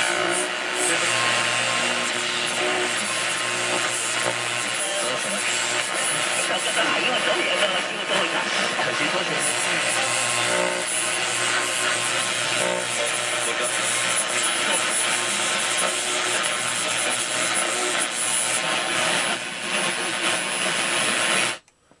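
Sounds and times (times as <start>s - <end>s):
pitched radio signal: 0.0s - 21.6s
radio static hiss: 0.0s - 21.6s.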